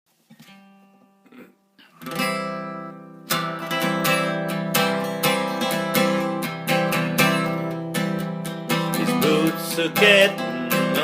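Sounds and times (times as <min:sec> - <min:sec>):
acoustic guitar strumming: 0:00.3 - 0:11.0.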